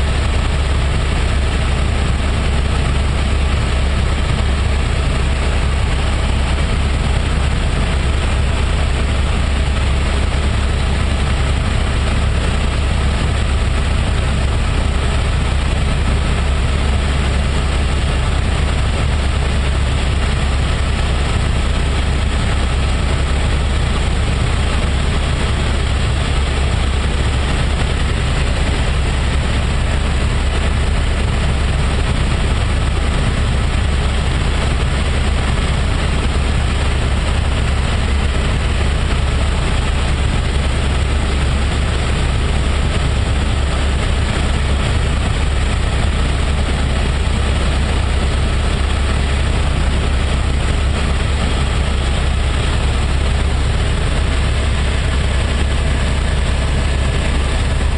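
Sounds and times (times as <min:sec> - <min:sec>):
helicopter rotor and engine drone: 0:00.0 - 0:57.9.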